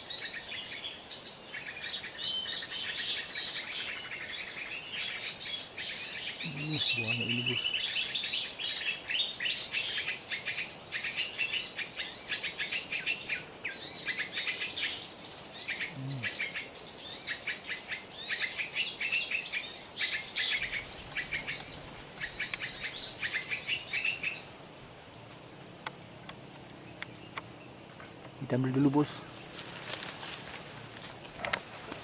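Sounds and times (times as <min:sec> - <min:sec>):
small birds chirping: 0:00.0 - 0:24.6, 0:25.2 - 0:32.0
faint insect drone: 0:00.0 - 0:32.0.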